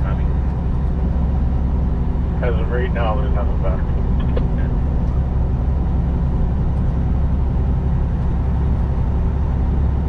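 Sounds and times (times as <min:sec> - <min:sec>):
road noise inside cab: 0:00.0 - 0:10.0
truck diesel engine drone: 0:00.0 - 0:10.0.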